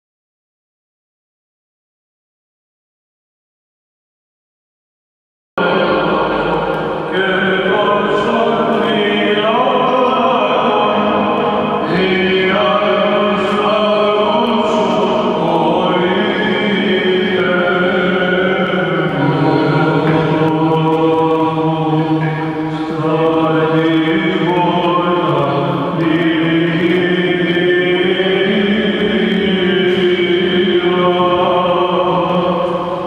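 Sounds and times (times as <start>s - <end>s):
men chanting: 5.6s - 33.0s.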